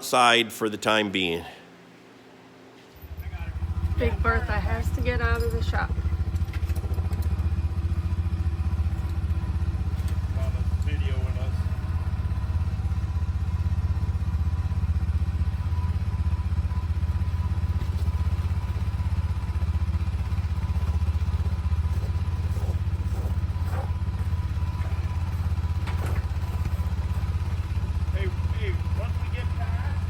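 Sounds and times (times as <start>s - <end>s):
large engine rumbling: 3.0s - 30.0s.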